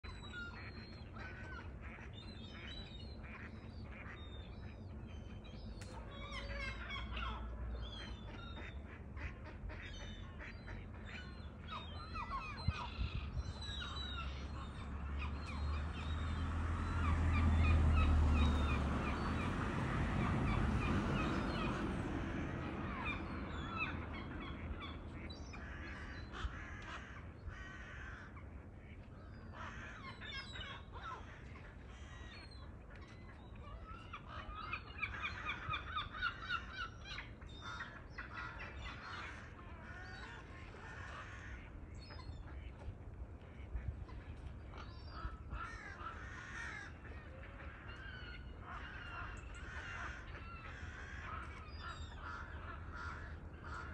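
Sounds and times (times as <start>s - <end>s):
ducks and gulls calling: 0.0s - 53.9s.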